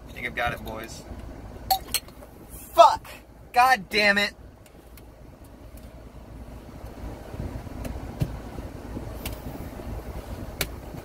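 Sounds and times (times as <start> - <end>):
low car cabin rumble: 0.0 - 11.0.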